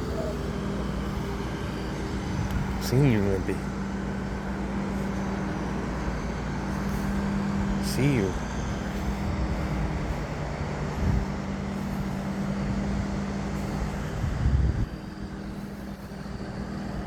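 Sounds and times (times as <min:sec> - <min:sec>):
low engine rumbles: 0:00.0 - 0:17.0
vehicle engine idling: 0:00.0 - 0:17.0.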